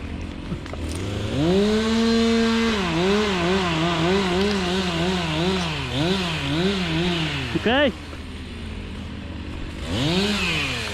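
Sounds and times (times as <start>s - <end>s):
chainsaw cutting wood: 0.2s - 9.0s, 9.6s - 10.9s.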